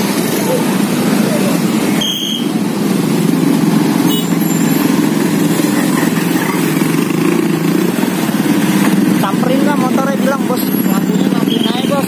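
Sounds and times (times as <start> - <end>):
dump truck engine running: 0.0 - 12.0
motorcycle engines: 0.0 - 12.0.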